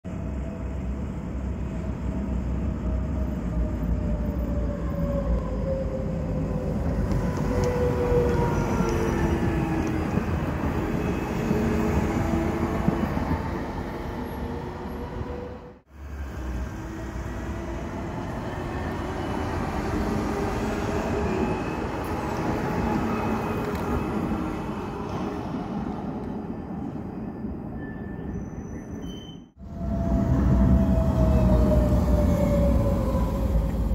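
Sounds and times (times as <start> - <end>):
tram wheels rumbling on rails: 0.1 - 33.9.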